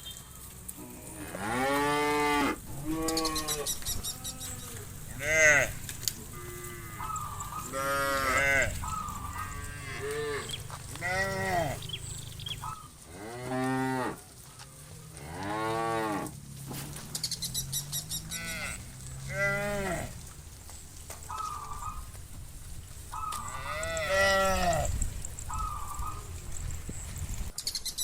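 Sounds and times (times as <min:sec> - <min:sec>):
cattle mooing: 0:00.8 - 0:14.2, 0:15.1 - 0:16.9, 0:17.6 - 0:22.3, 0:23.0 - 0:26.3.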